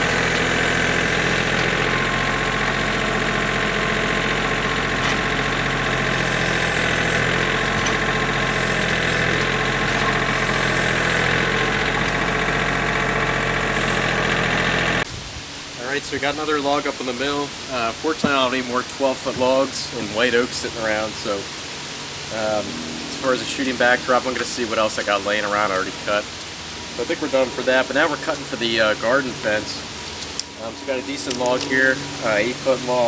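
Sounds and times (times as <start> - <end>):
tractor engine running: 0.0 - 15.1, 15.9 - 33.0.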